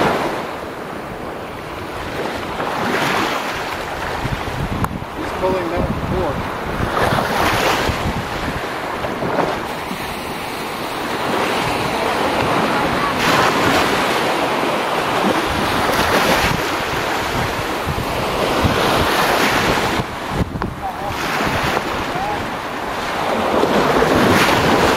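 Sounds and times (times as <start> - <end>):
ocean surf washing in: 0.0 - 24.9
wind buffeting microphone: 0.0 - 24.9.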